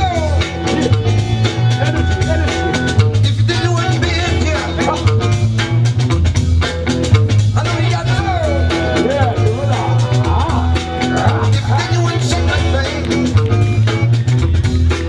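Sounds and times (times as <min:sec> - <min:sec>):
loud music with heavy bass: 0:00.0 - 0:15.0.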